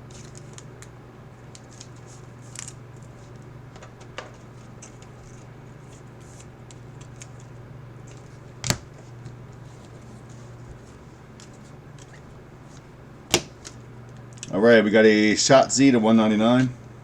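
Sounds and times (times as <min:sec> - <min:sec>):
trading cards handled by hand: 0:00.0 - 0:14.6
steady low hum: 0:00.0 - 0:17.0.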